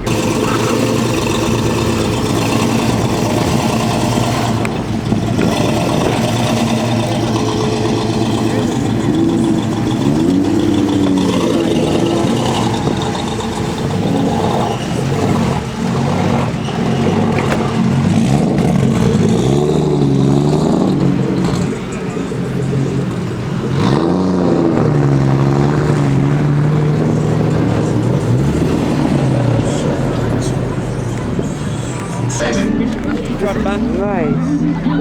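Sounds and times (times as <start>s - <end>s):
car engine idling and revving: 0.0s - 35.0s
crowd chatter: 0.0s - 35.0s.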